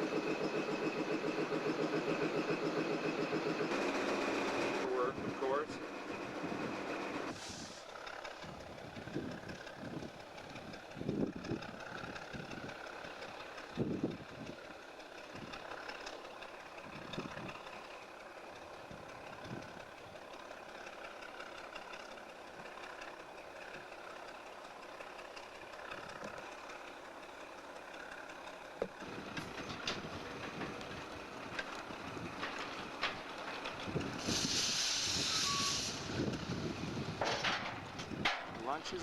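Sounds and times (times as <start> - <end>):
diesel locomotive engine idling: 0.0 - 39.0.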